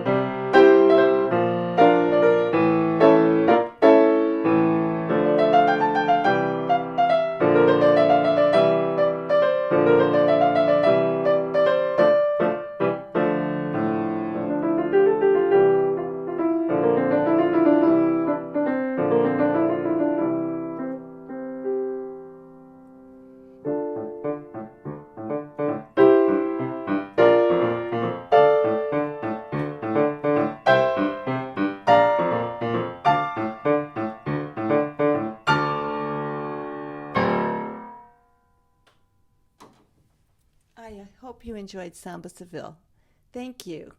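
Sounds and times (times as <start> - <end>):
solo piano samba piece: 0.0 - 39.0.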